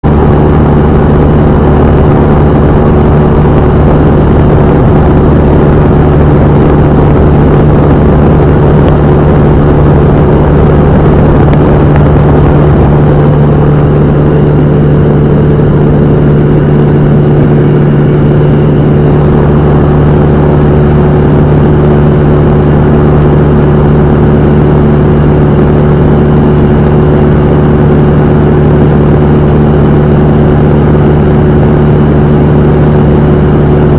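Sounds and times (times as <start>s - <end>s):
light aircraft engine and propeller drone: 0.0s - 33.9s.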